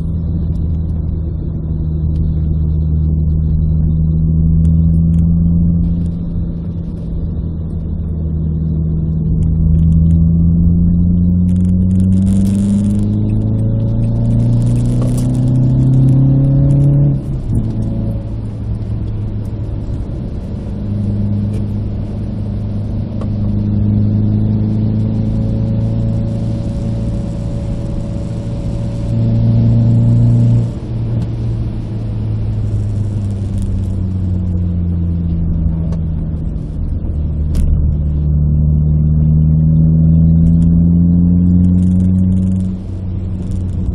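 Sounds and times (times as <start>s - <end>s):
car engine revving inside cabin: 0.0s - 43.9s.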